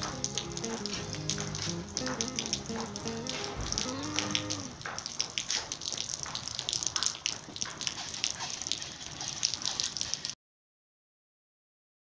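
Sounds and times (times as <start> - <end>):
rain pattering on rooftop: 0.0 - 10.4.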